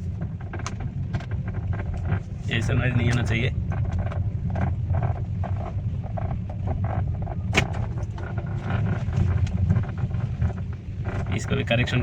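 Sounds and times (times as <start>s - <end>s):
low rumble: 0.0s - 12.0s
steering column clicking and knocking: 0.0s - 12.0s
steering column creaking: 0.0s - 12.0s.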